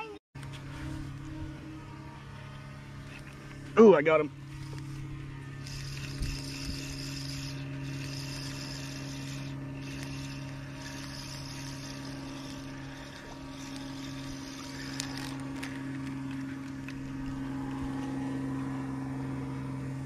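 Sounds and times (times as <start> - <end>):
drone propellers humming: 0.0 - 20.0.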